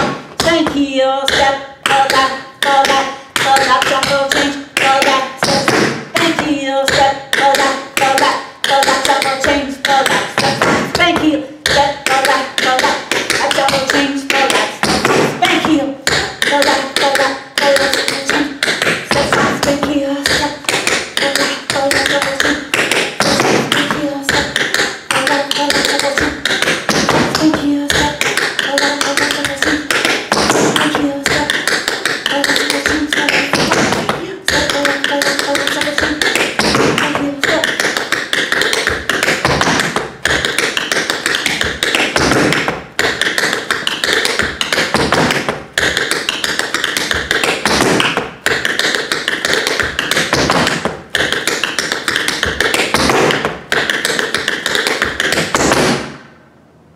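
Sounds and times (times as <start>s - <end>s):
tap shoes clicking on hard floor: 0.0s - 56.2s.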